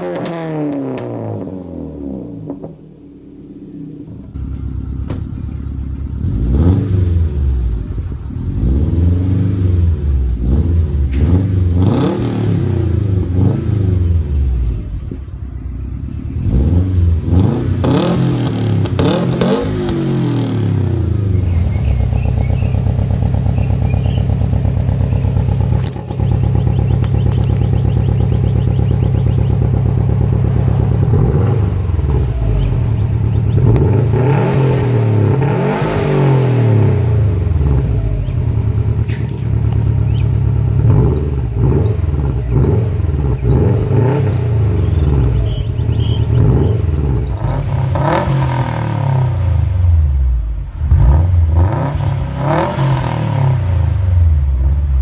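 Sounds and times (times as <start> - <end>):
car engine revving: 6.0 - 14.8, 16.1 - 55.0.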